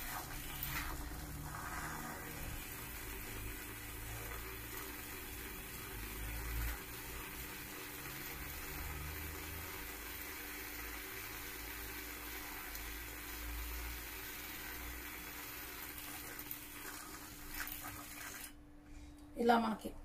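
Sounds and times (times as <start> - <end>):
moka pot bubbling and gurgling: 0.0 - 18.6.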